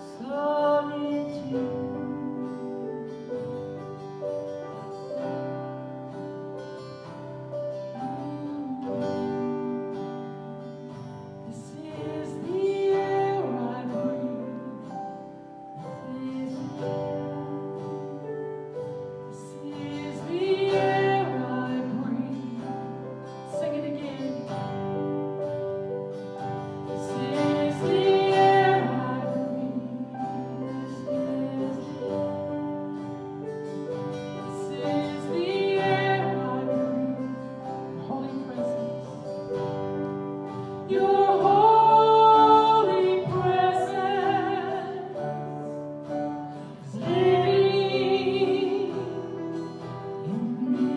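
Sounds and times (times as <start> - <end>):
woman singing: 0.0 - 4.2, 7.8 - 25.5, 26.4 - 50.9
acoustic guitar: 0.0 - 50.9.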